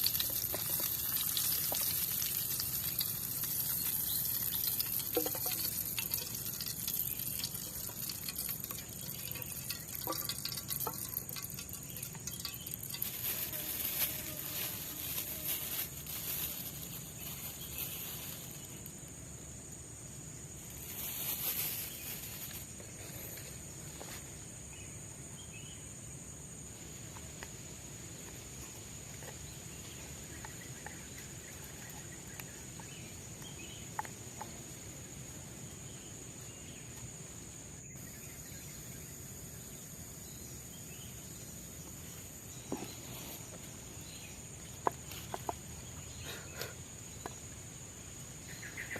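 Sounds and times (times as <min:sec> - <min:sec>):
forest insects droning: 0:00.0 - 0:48.9.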